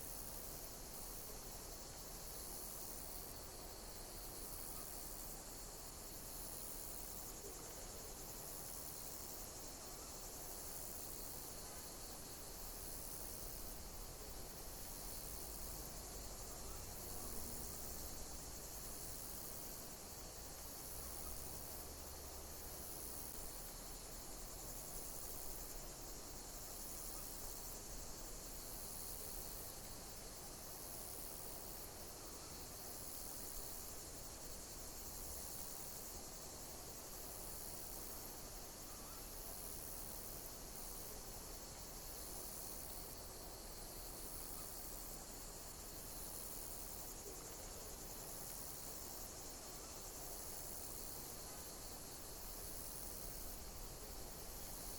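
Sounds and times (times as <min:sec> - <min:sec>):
high-pitched insect call: 0:00.0 - 0:54.9
insect chorus: 0:00.0 - 0:54.9.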